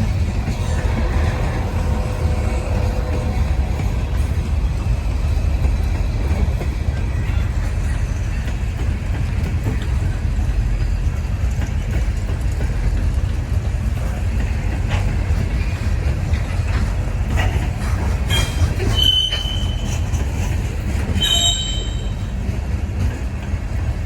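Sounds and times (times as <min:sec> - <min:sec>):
freight train rumbling past: 0:00.0 - 0:24.0
train wheels clicking: 0:00.0 - 0:24.0.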